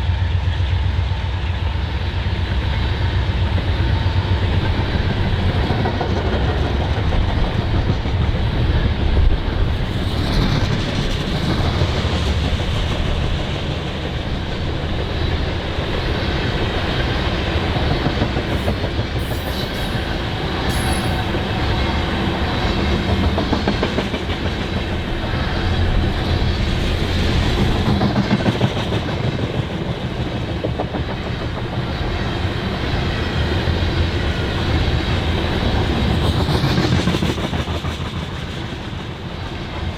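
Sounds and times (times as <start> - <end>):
train rumble: 0.0 - 39.9
train wheels clicking on rail joints: 0.3 - 39.9.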